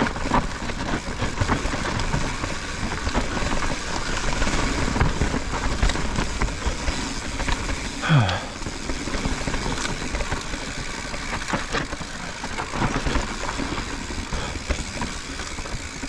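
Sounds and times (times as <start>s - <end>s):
bike clicks and rattles: 0.0s - 16.0s
tyres rushing on loose dirt: 0.0s - 16.0s.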